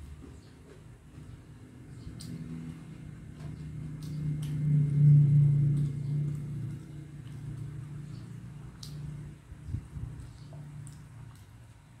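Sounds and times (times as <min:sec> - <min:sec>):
vehicle engine hum passing: 0:00.0 - 0:11.4.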